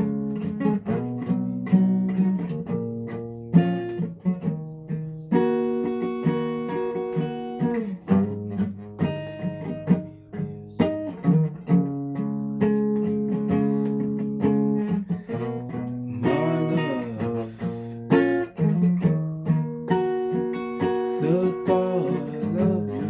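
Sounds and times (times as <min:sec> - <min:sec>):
guitar strummed and picked: 0:00.0 - 0:23.0.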